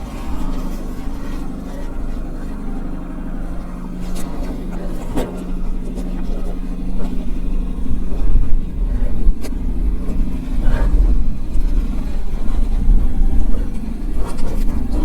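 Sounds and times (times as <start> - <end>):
low motor hum: 0.0 - 15.0
wind buffeting microphone: 0.0 - 15.0.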